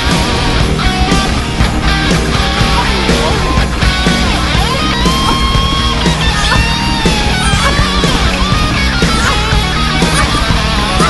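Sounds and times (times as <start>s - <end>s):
lead guitar bending notes: 0.0s - 11.0s
rock music with electric guitar: 0.0s - 11.0s.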